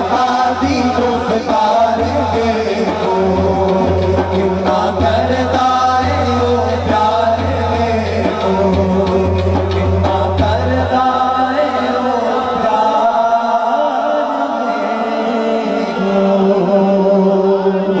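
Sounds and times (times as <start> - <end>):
men chanting into microphones: 0.0 - 18.0.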